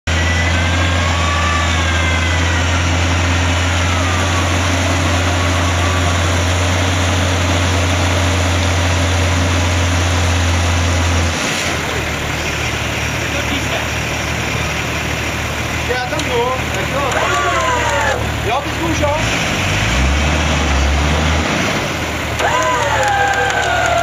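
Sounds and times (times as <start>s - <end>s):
engine idling: 0.0s - 19.8s, 21.9s - 24.0s.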